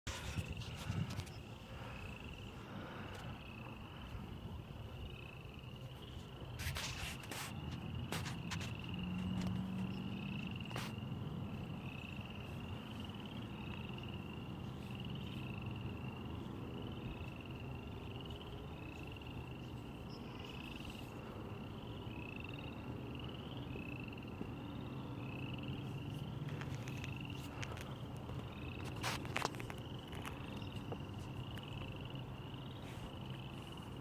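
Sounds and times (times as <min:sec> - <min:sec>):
frog calling: 0:06.6 - 0:34.0.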